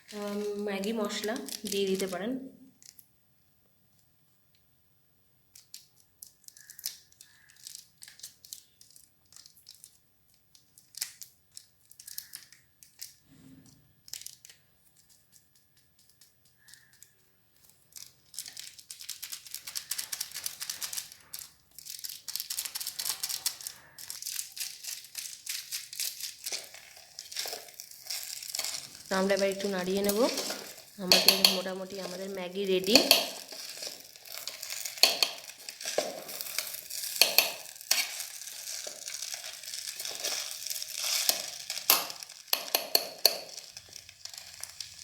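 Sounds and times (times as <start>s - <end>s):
sachet crinkling and tearing: 0.0s - 2.1s, 2.7s - 3.1s, 5.5s - 13.2s, 14.0s - 45.0s
noodles sizzling: 0.0s - 3.1s, 5.5s - 45.0s.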